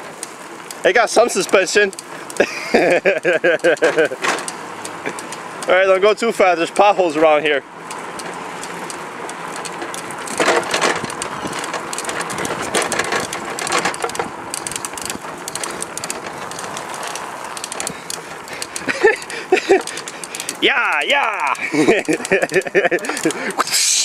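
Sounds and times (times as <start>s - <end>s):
go-kart rattling on asphalt: 0.0s - 23.7s.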